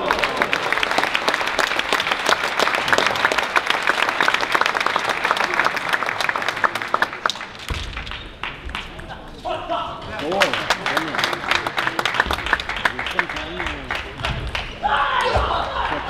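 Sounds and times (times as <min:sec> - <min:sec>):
spectators applauding: 0:00.0 - 0:09.0, 0:10.2 - 0:16.0.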